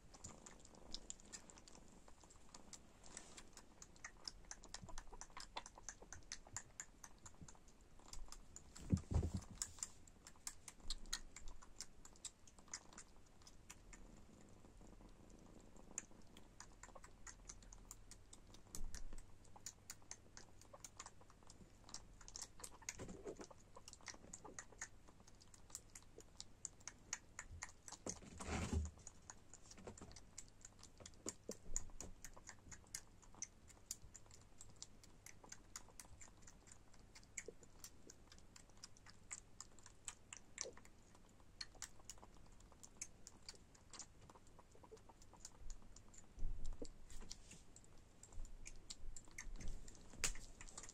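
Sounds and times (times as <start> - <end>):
kitten suckling wet clicks: 0.0 - 50.9.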